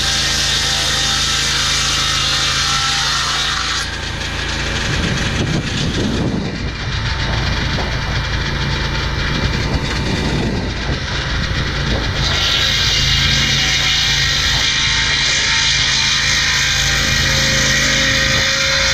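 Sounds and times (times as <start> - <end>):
sawmill mechanical rattling: 0.0 - 18.9.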